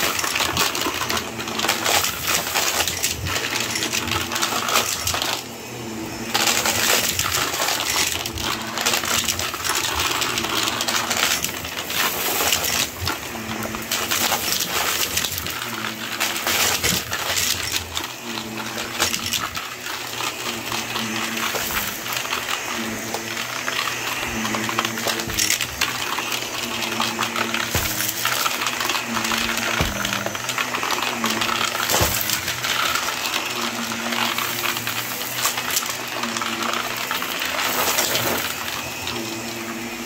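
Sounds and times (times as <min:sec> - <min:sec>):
debris rattling up vacuum nozzle: 0:00.0 - 0:40.0
vacuum cleaner motor humming: 0:00.0 - 0:40.0.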